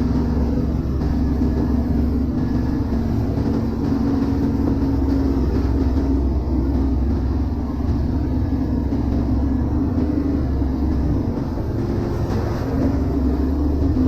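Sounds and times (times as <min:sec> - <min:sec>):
boat diesel engine droning: 0:00.0 - 0:14.0.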